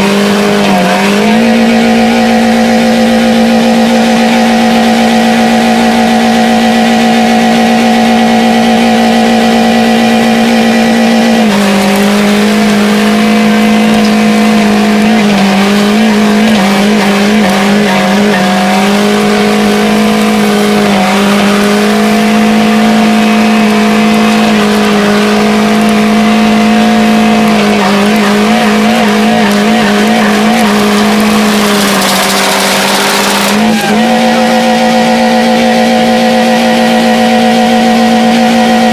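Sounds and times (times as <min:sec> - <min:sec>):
car engine revving high: 0:00.0 - 0:38.9.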